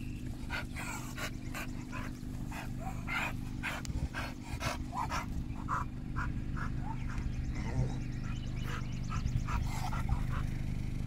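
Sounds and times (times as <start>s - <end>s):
dog panting: 0.3s - 10.6s.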